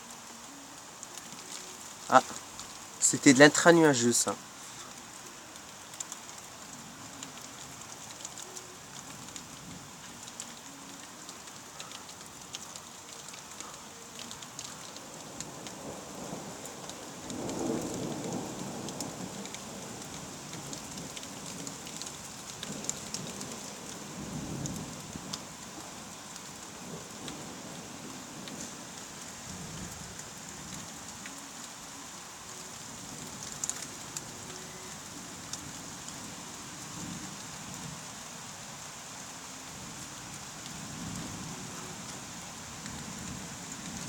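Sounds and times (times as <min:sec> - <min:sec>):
rain pattering: 0:00.0 - 0:44.0.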